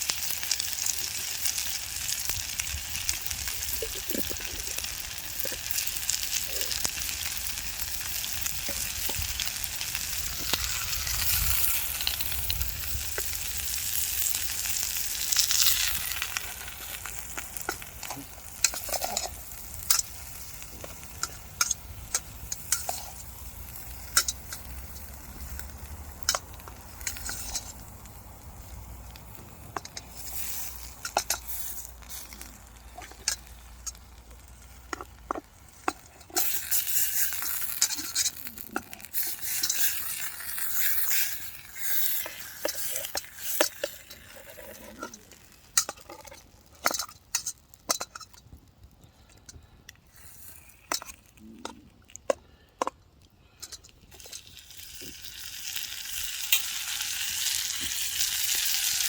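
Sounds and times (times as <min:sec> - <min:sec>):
food sizzling in a pan: 0:00.0 - 0:48.3, 0:50.1 - 0:51.2, 0:54.1 - 0:59.0.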